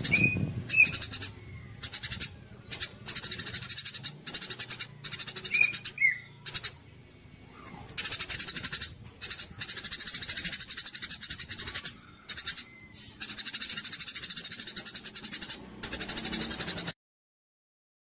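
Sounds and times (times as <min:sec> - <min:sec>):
songbird high trills: 0:00.0 - 0:06.8, 0:07.6 - 0:16.9.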